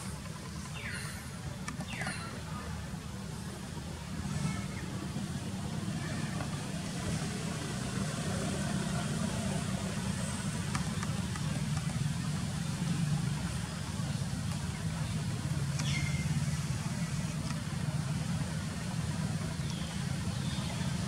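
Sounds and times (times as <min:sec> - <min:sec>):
faint voices: 0:00.0 - 0:21.0.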